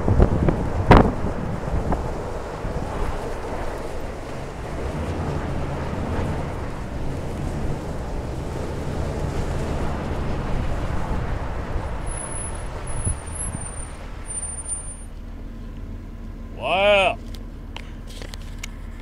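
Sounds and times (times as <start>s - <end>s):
car engine running: 0.0s - 19.0s
tyres rumbling on gravel: 0.0s - 19.0s.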